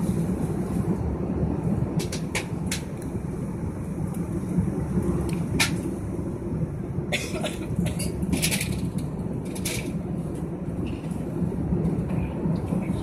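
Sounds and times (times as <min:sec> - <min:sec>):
airliner cabin low rumble: 0:00.0 - 0:13.0.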